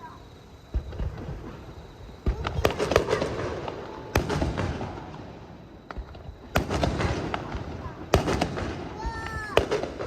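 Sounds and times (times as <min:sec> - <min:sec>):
firework bangs: 0:00.0 - 0:10.0
firework crackling pops: 0:00.0 - 0:10.0.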